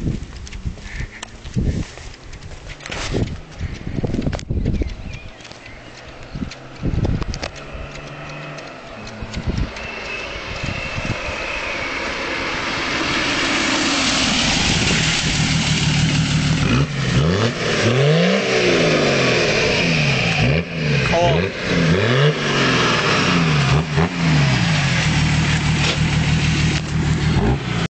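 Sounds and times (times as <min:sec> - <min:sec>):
diesel engine and turbo noise: 0:00.0 - 0:27.9
engine revving: 0:05.3 - 0:27.9.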